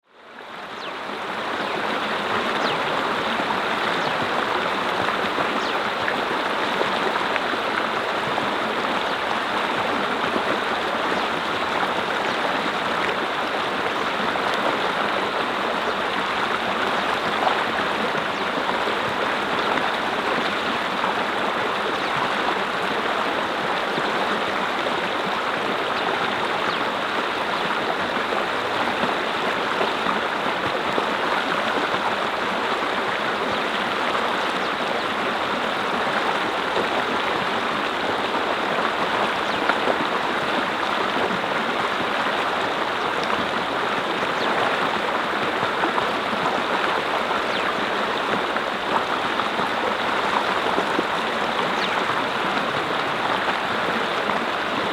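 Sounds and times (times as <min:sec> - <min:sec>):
brook flowing over rocks: 0:00.2 - 0:54.9.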